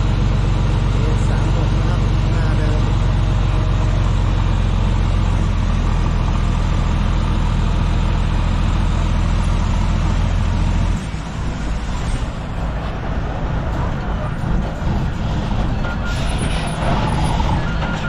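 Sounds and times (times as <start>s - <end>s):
truck diesel engine rumbling: 0.0s - 18.0s.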